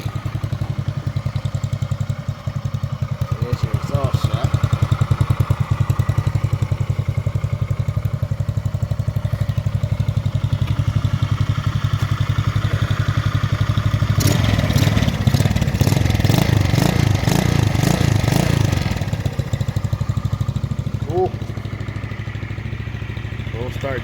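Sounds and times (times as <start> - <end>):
go-kart engine idling: 0.0 - 24.0.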